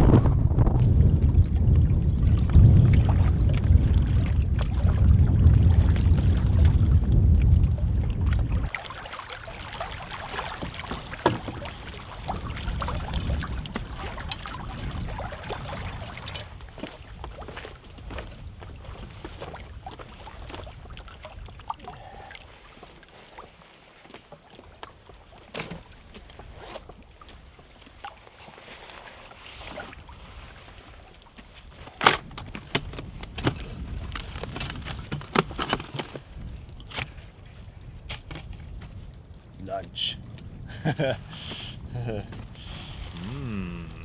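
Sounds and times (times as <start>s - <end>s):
wind rumble on microphone: 0.0s - 22.6s, 29.5s - 44.0s
water lapping against canoe: 0.5s - 44.0s.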